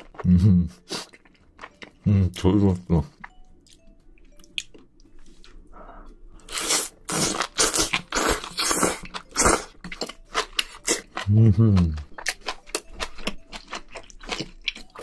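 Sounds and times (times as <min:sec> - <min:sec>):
wet chewing: 0:00.0 - 0:02.0, 0:03.1 - 0:05.6, 0:06.4 - 0:15.0.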